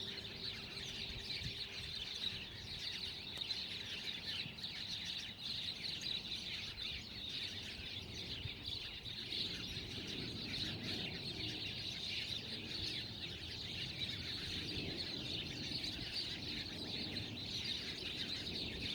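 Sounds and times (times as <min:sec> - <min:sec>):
chorus of chirping birds: 0:00.0 - 0:18.9.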